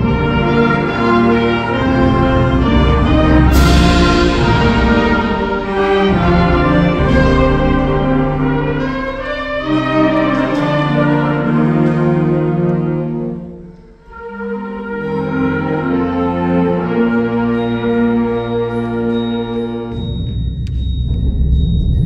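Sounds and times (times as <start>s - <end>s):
concert band playing sustained chords: 0.0s - 20.1s.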